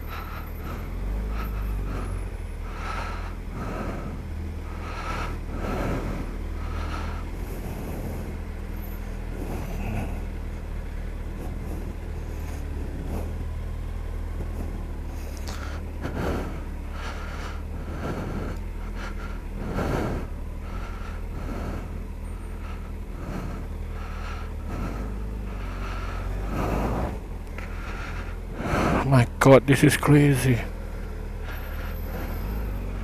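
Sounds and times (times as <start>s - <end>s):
motorcycle engine low hum: 0.0s - 33.0s.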